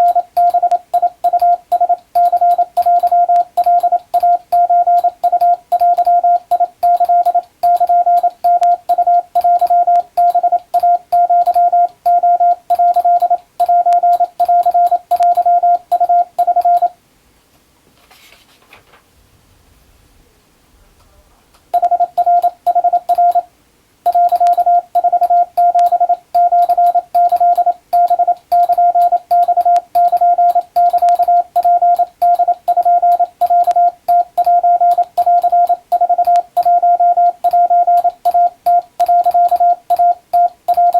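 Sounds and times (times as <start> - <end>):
morse code beeps: 0.0 - 17.0, 21.8 - 23.5, 24.1 - 40.9.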